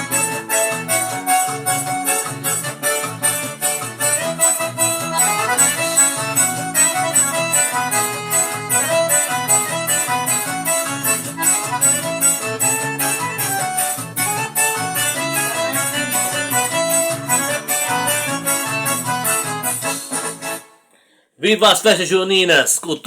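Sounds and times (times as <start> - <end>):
electronic keyboard dance tune: 0.0 - 20.7.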